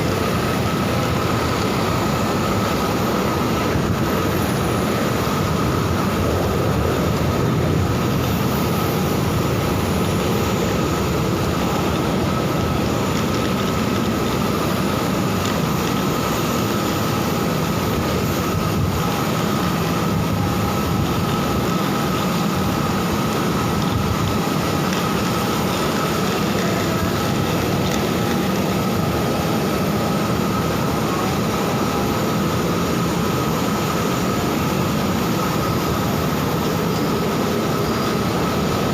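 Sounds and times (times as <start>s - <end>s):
jet airliner drone: 0.0s - 38.9s.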